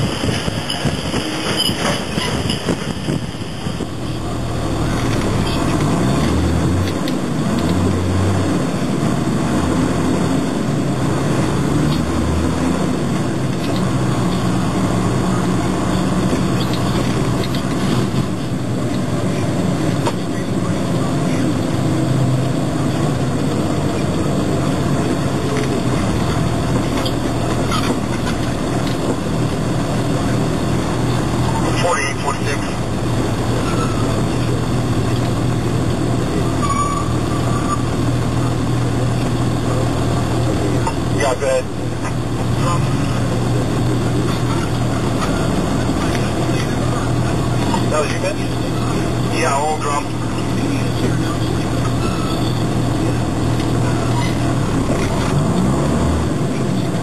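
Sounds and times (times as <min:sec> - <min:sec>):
road noise inside cab: 0:00.0 - 0:57.0
truck diesel engine rumble: 0:00.0 - 0:57.0.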